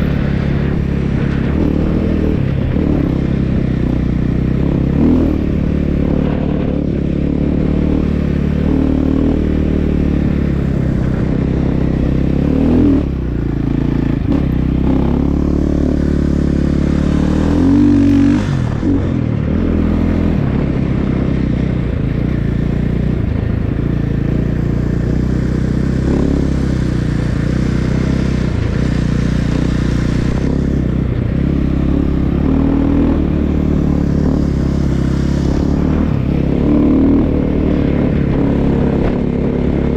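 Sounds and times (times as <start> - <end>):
snow bike engine revving: 0.0 - 39.9.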